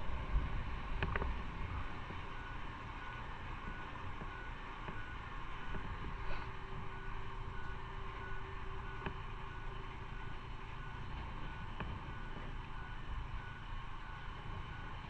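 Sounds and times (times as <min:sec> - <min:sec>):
motorcycle engine and road rumble: 0:00.0 - 0:15.0.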